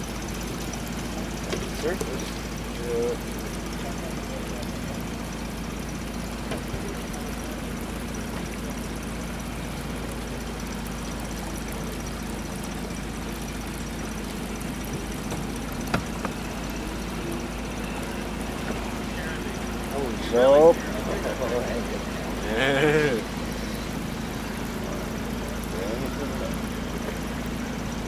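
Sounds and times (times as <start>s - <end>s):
outboard boat motor running: 0.0s - 28.0s.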